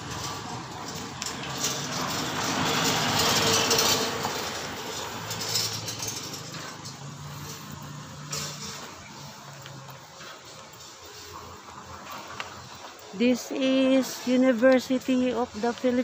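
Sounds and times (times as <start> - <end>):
vehicle passing: 0.0 - 13.1.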